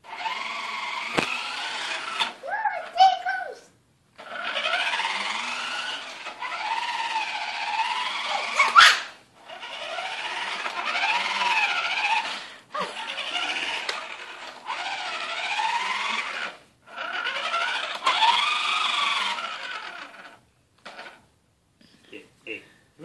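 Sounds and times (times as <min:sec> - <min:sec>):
toy truck motor whirring: 0:00.0 - 0:03.2, 0:04.2 - 0:21.2.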